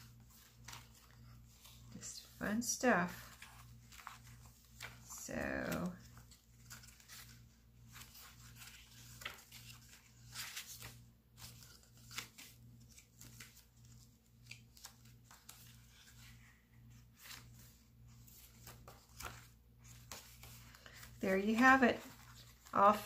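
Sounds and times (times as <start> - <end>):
paper pages being turned: 0.0 - 23.0.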